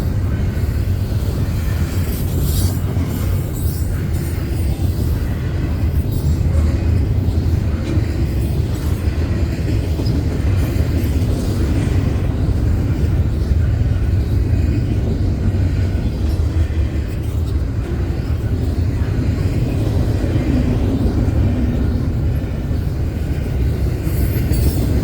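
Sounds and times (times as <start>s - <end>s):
freight train rumbling on rails: 0.0s - 25.0s.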